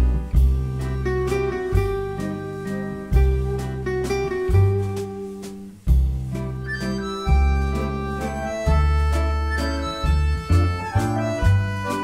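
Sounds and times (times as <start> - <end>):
instrumental music with plucked guitar: 0.0 - 12.0.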